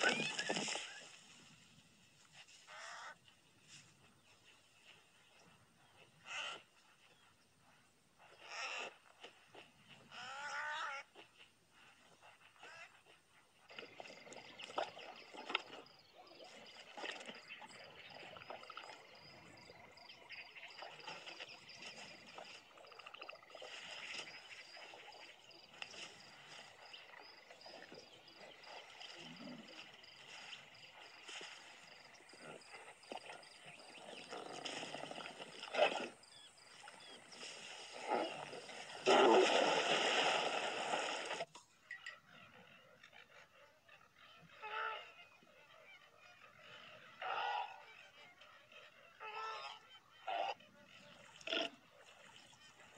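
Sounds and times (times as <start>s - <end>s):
animal noises: 0.0s - 1.4s, 2.3s - 39.6s, 41.8s - 52.9s.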